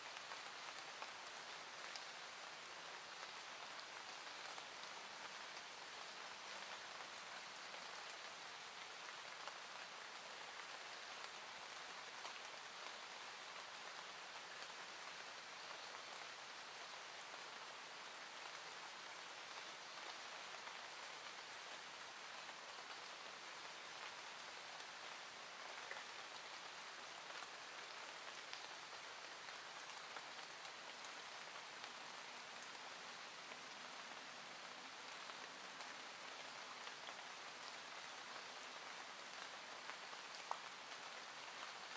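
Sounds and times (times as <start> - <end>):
soft steady rain: 0.0 - 41.9.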